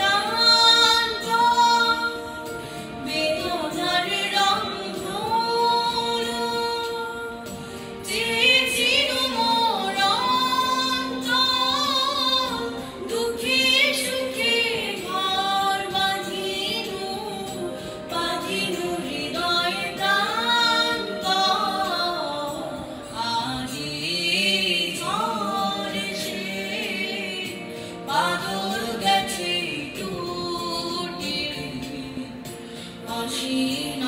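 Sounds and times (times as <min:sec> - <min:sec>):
backing music: 0:00.0 - 0:34.0
boy singing into microphone: 0:00.0 - 0:34.0.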